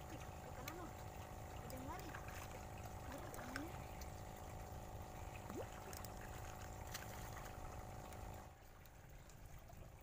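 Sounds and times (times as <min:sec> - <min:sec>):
steady low hum: 0:00.0 - 0:10.0
water splashing: 0:00.0 - 0:10.0.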